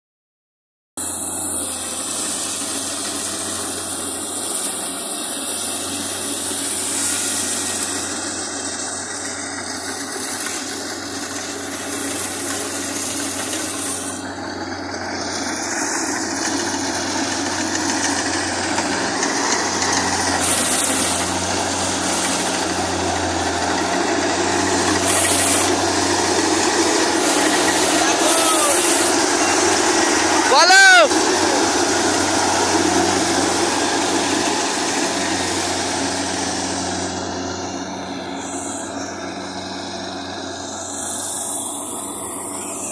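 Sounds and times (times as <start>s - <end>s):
combine harvester running: 1.0s - 42.9s.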